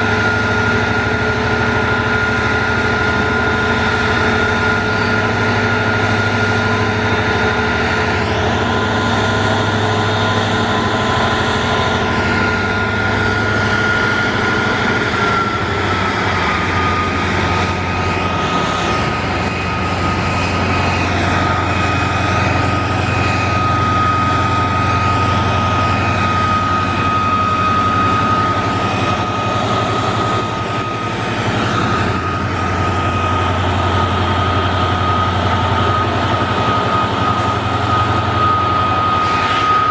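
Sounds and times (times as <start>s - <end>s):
heavy engine rumble: 0.0s - 39.9s
high turbocharger whine: 0.0s - 39.9s.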